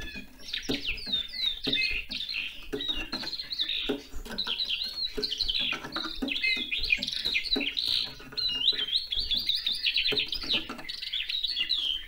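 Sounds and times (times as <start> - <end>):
skylark singing: 0.0 - 12.0.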